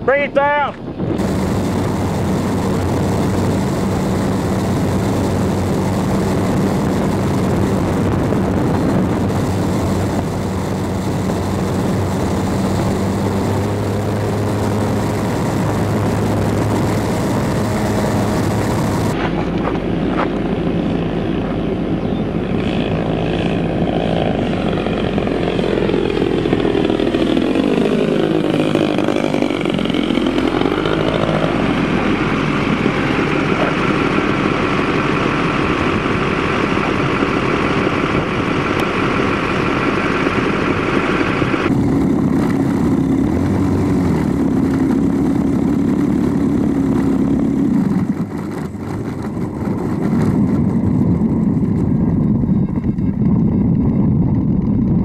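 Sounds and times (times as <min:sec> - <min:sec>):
model plane engine drone: 0:00.0 - 0:55.0
plane flying overhead: 0:00.0 - 0:55.0
wind rush: 0:00.0 - 0:55.0.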